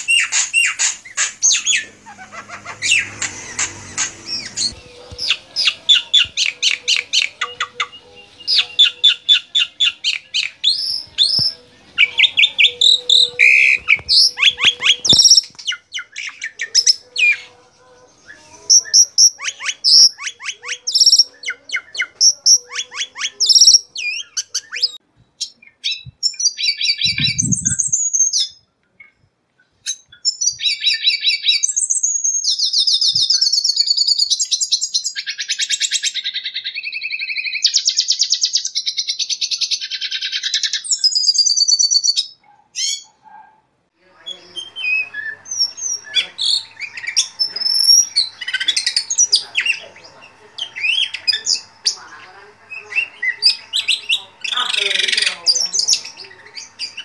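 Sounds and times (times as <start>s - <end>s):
bird chirps and calls: 0.0s - 43.4s, 44.0s - 57.0s
birds twittering trills and whistles: 0.0s - 57.0s.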